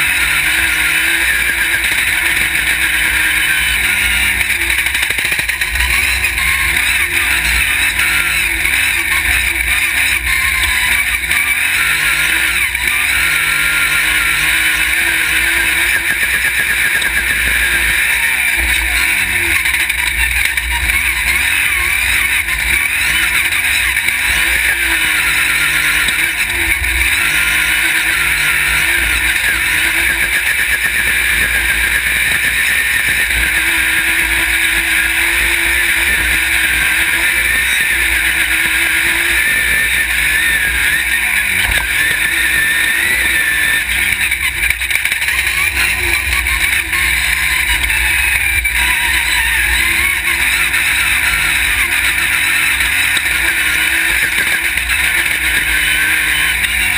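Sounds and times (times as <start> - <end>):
buggy engine revving: 0.0 - 56.9.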